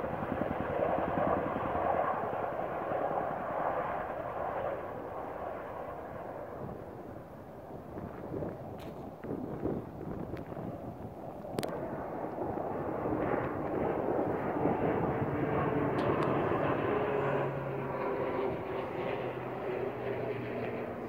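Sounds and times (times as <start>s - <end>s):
propeller airplane flying overhead: 0.0s - 21.0s.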